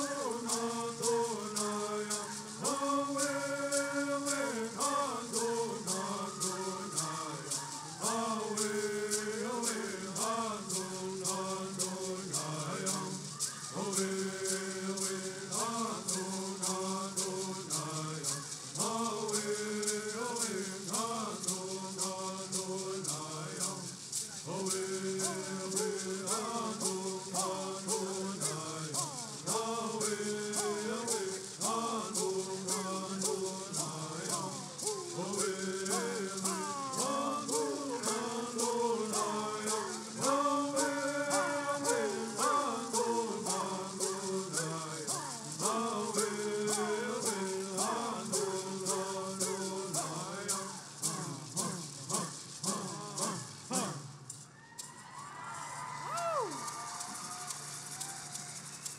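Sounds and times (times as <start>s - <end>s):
men singing in unison: 0.0s - 54.4s
gourd rattles shaking: 0.0s - 58.9s.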